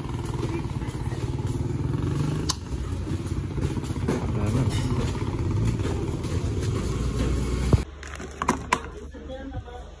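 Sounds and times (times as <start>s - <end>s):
motorcycle engine rumbling: 0.0s - 9.3s.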